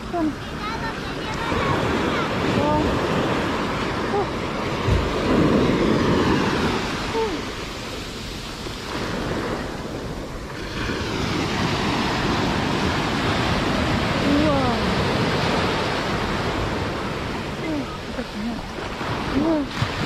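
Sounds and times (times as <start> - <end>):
surf breaking on sand: 0.0 - 20.0.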